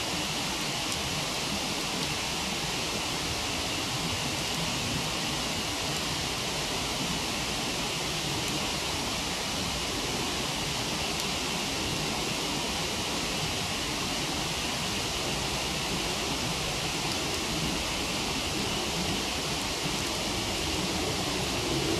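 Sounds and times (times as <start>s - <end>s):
waterfall roaring: 0.0s - 21.9s.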